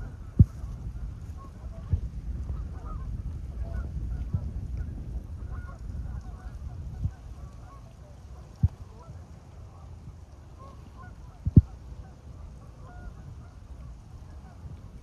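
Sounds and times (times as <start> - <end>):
swans and geese honking: 0.0 - 4.4, 5.4 - 15.0
steady low rumble: 0.0 - 15.0.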